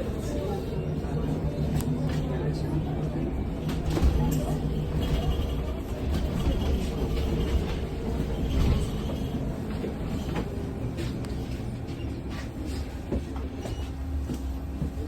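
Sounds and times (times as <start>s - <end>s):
low rumble of moving bus: 0.0s - 15.0s.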